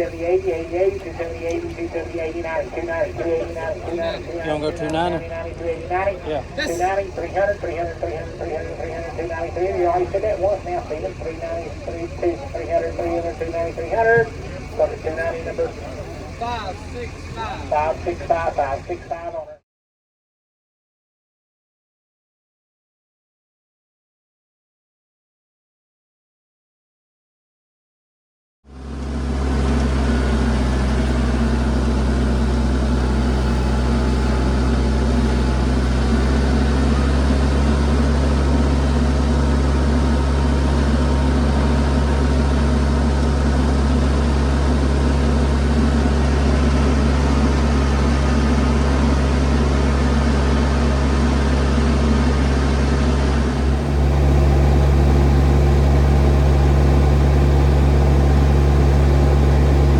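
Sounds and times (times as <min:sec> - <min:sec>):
engine humming steadily: 0:00.0 - 0:19.6, 0:28.7 - 0:59.9.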